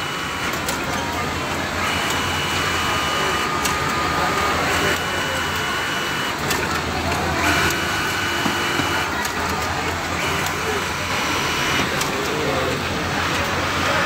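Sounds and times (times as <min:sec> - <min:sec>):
sewing machine whine: 0:00.0 - 0:14.0.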